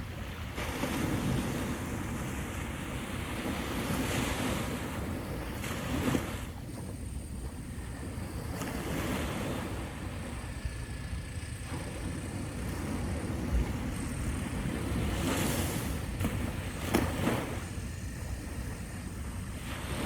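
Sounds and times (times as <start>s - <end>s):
surf washing onto beach: 0.0s - 20.0s
wind rumbling on microphone: 0.0s - 20.0s.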